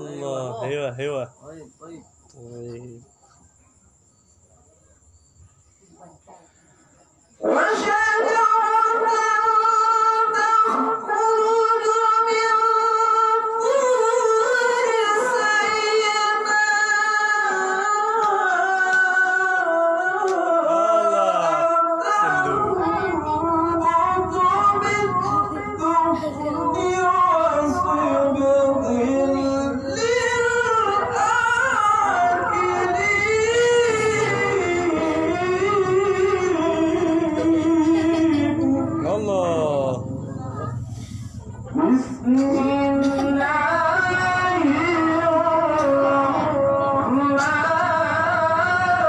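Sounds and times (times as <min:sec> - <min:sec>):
man chanting through microphone: 0:00.0 - 0:03.1, 0:07.3 - 0:40.8, 0:41.6 - 0:49.0.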